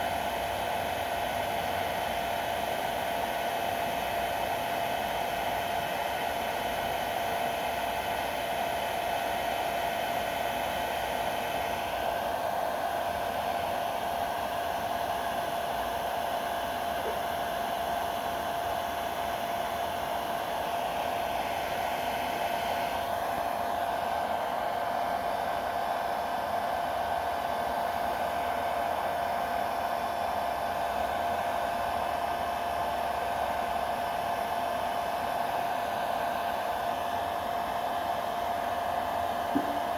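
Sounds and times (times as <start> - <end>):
hot-air blower running: 0.0 - 39.9.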